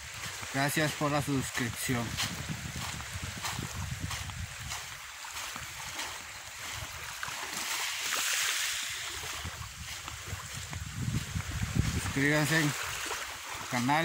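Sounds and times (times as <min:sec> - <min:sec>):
wind rumble on microphone: 0:00.0 - 0:07.7, 0:08.6 - 0:14.0
small waves lapping on beach: 0:00.0 - 0:14.0.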